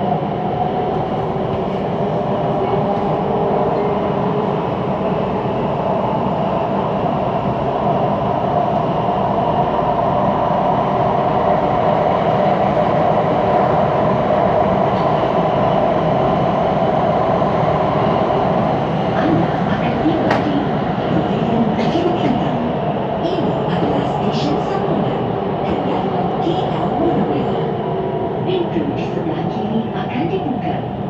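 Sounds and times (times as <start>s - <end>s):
constant train hum: 0.0s - 31.0s
train wheels rumbling on rails: 0.0s - 31.0s.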